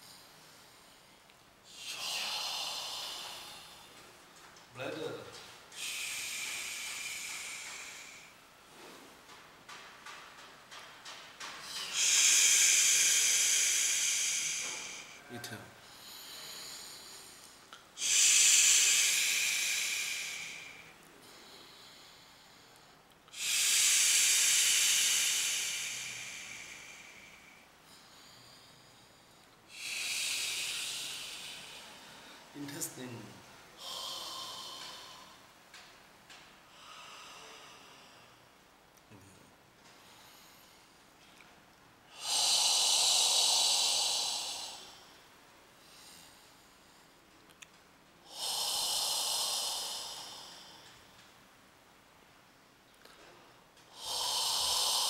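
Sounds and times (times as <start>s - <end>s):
forceful hissing exhales: 0.0s - 4.0s, 5.3s - 9.1s, 9.7s - 33.1s, 33.8s - 38.5s, 40.0s - 41.2s, 42.1s - 47.3s, 48.2s - 52.3s, 53.0s - 55.0s.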